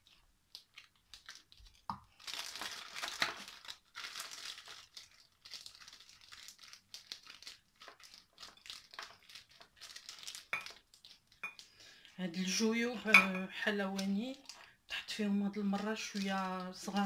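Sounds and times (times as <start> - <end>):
plastic piping bag crinkling: 0.0 - 17.0.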